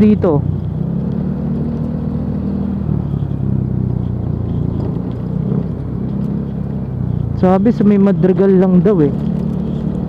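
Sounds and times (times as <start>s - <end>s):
motorcycle engine droning: 0.0s - 10.0s
road and wind noise: 0.0s - 10.0s.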